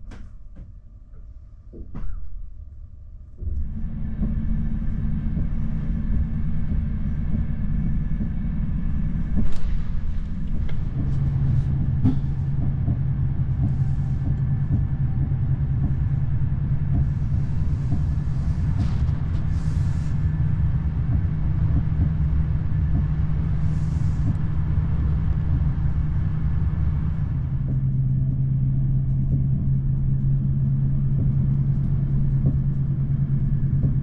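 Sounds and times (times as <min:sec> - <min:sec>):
constant low hum: 0:00.0 - 0:34.0
train carriage rumbling on rails: 0:03.3 - 0:34.0.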